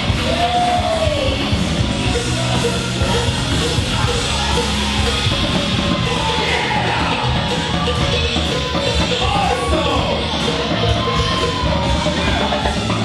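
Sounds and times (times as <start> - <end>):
loud music with singing: 0.0 - 13.0.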